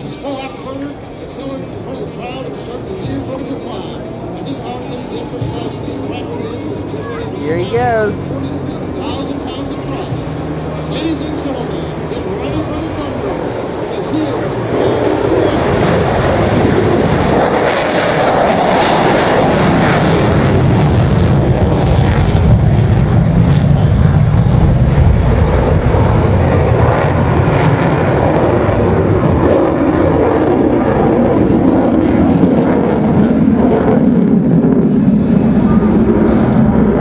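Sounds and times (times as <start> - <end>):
jet engine afterburner rumble: 0.0 - 37.0.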